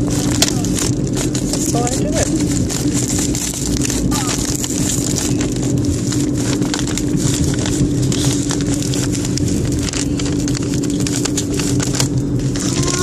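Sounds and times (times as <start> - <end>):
car hum: 0.0 - 13.0
package crinkling and rustling: 0.0 - 13.0.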